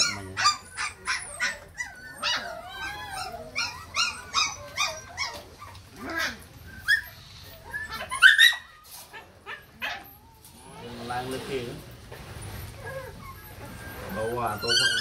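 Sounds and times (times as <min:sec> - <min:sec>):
puppies whimpering and yelping: 0:00.0 - 0:15.0.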